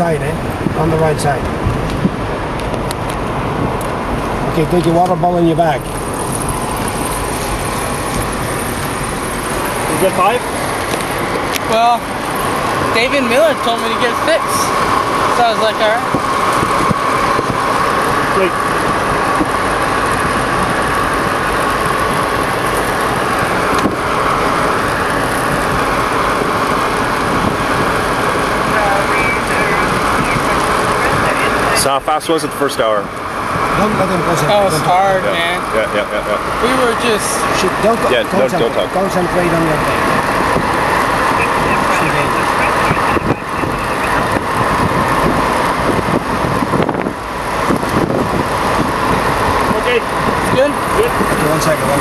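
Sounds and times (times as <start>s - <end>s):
car road and wind noise: 0.0s - 52.0s.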